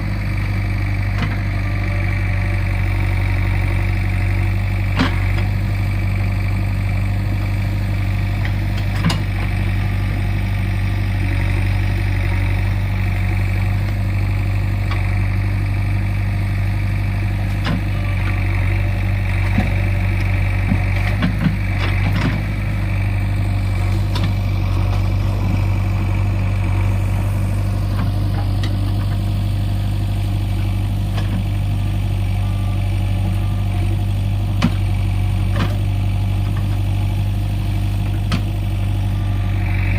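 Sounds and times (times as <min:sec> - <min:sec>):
diesel engine running at low speed: 0:00.0 - 0:39.9.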